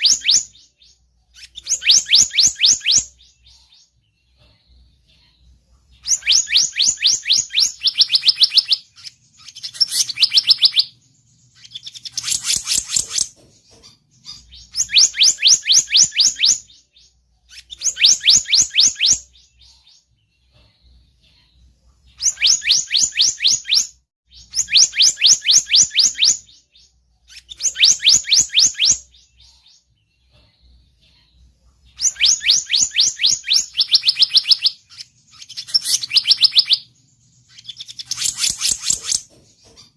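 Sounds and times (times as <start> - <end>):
bird rapid high chirps: 0.0 - 39.9.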